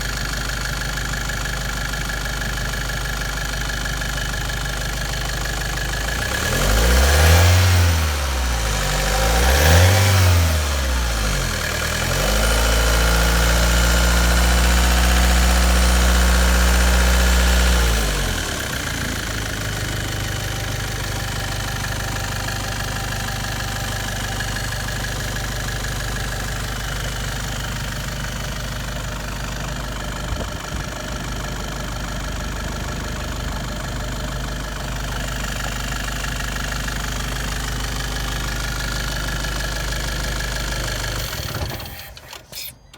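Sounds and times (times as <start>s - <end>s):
diesel engine revving and idling: 0.0s - 42.9s.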